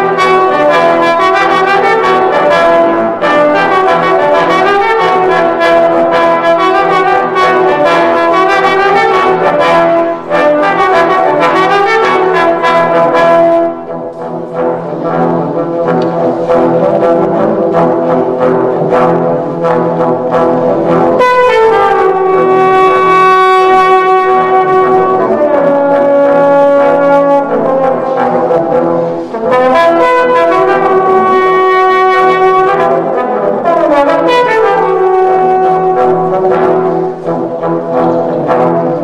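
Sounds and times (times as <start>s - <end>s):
trombones playing held chords: 0.0s - 39.0s.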